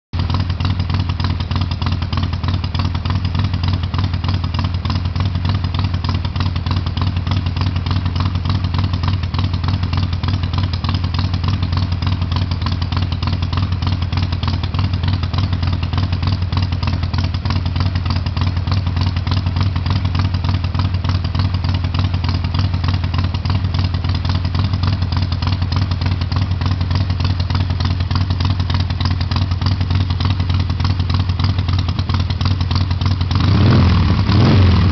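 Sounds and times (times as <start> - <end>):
motorcycle idling: 0.2 - 34.9.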